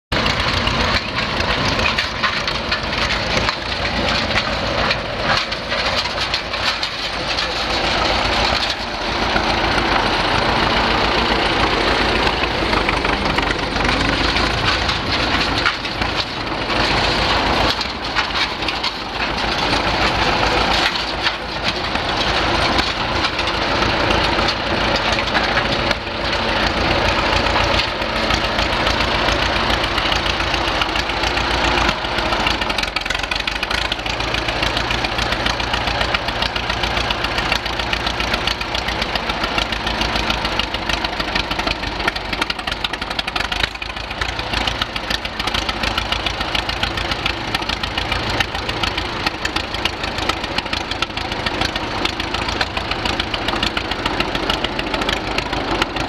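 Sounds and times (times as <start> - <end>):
steel wheels on concrete: 0.1 - 56.0
tractor engine running: 0.1 - 56.0.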